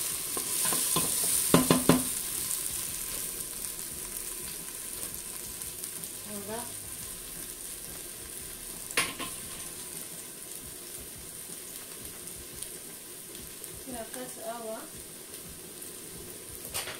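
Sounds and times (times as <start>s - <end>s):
onions sizzling in oil: 0.0s - 16.9s.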